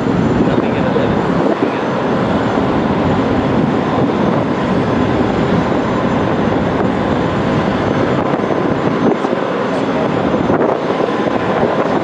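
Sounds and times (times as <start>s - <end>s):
jet airliner flying past: 0.0s - 12.0s.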